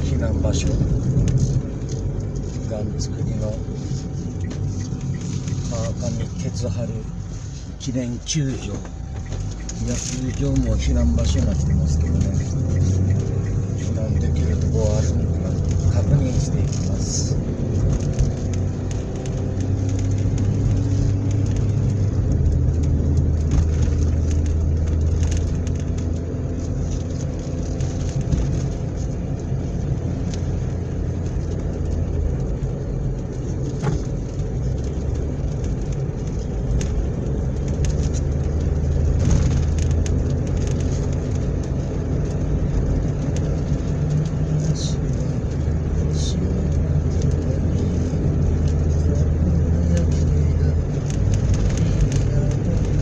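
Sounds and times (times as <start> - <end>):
car engine hum: 0.0 - 53.0
road noise: 0.0 - 53.0.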